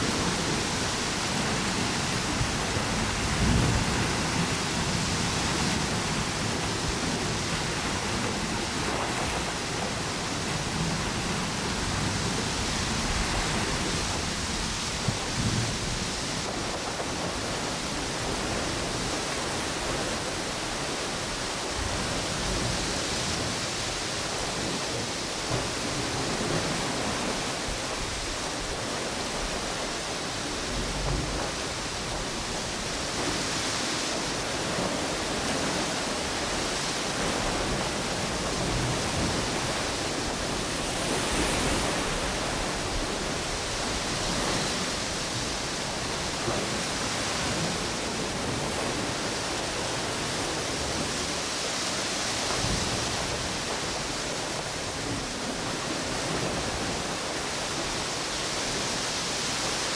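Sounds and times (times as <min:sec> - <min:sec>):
ocean waves on beach: 0:00.0 - 0:59.9
wind through palm trees: 0:00.0 - 0:59.9.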